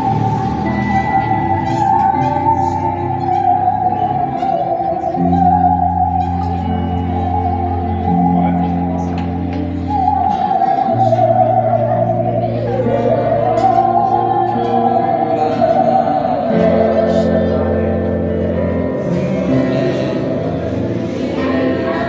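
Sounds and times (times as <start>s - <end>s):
musical saw melody with vibrato: 0.0s - 22.0s
sustained backing chords: 0.0s - 22.0s.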